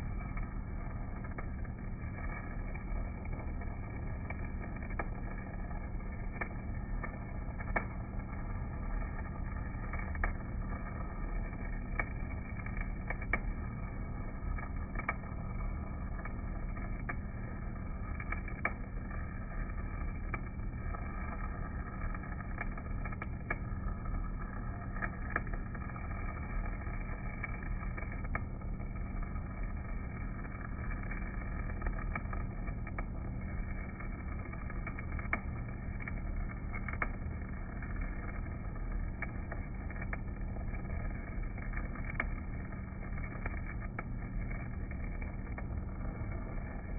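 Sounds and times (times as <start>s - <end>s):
low hum: 0.0s - 46.9s
welding arc crackling and popping: 0.0s - 46.9s.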